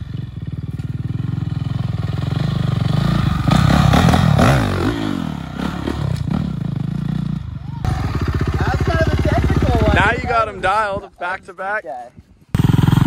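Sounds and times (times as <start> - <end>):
dirt bike engine revving: 0.0 - 10.3, 12.6 - 13.0.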